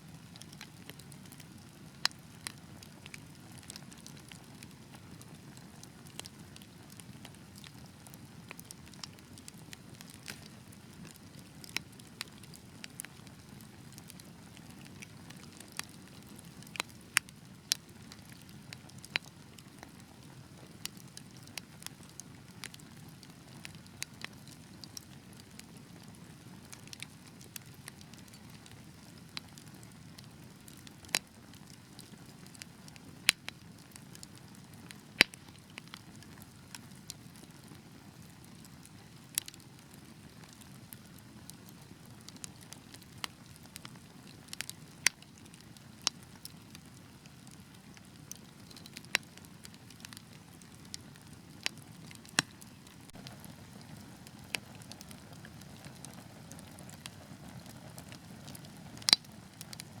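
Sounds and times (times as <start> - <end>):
fire crackles and pops: 0.0 - 60.0.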